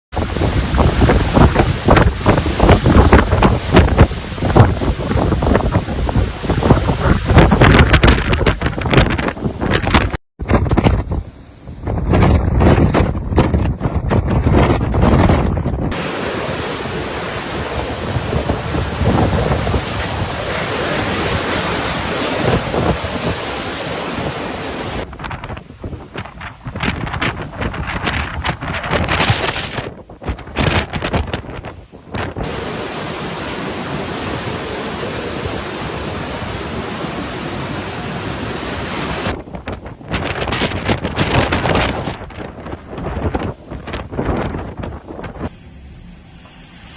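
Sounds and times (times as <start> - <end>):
wind buffeting microphone: 0.1 - 16.1, 17.4 - 32.6, 39.1 - 46.9.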